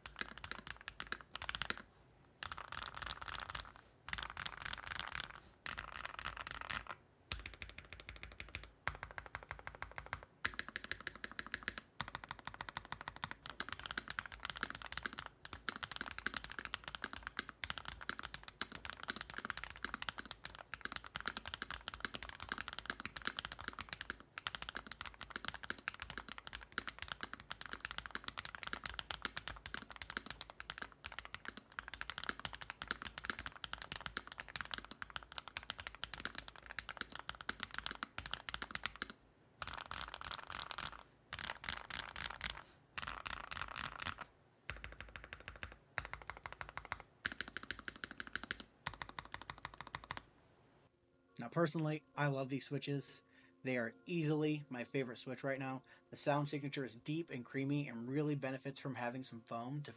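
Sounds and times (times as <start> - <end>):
fast mechanical keyboard typing: 0.0 - 1.8, 2.4 - 50.2.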